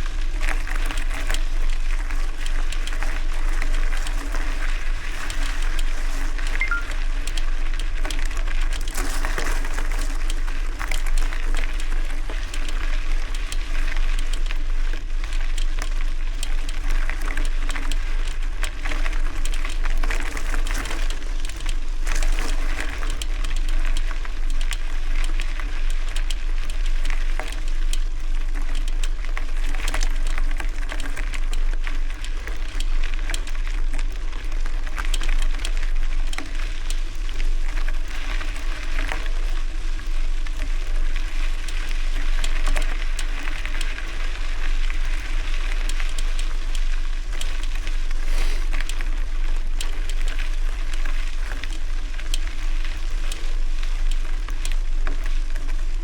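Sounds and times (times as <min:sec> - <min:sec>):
tyres crunching on gravel: 0:00.0 - 0:56.0
wind rumble on microphone: 0:00.0 - 0:56.0.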